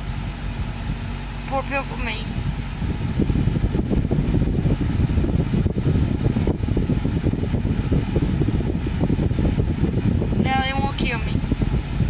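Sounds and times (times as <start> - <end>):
fluttering low rumble: 0.0 - 12.0.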